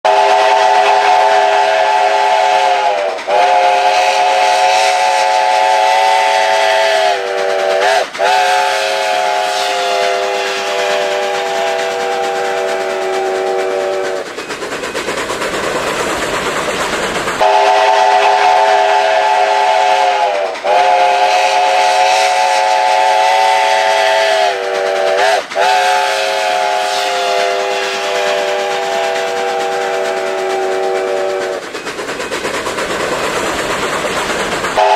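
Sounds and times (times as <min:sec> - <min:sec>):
steam locomotive chime whistle: 0:00.0 - 0:15.1, 0:17.4 - 0:32.4
hissing steam: 0:00.0 - 0:34.9.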